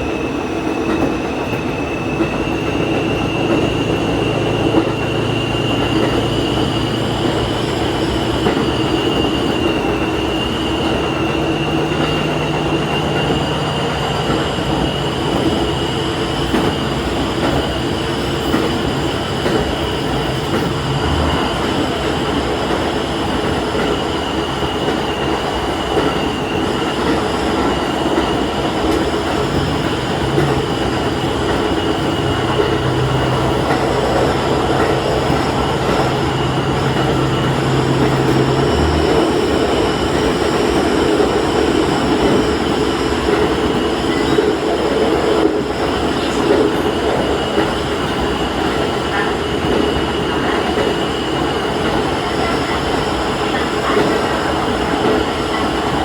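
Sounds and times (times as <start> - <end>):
diesel railcar engine: 0.0 - 56.0
wheels on rails: 0.0 - 56.0.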